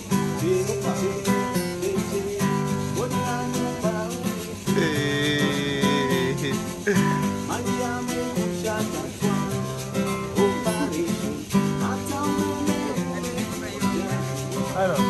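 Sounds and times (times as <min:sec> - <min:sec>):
acoustic guitar strummed: 0:00.0 - 0:15.0
man singing: 0:00.0 - 0:15.0.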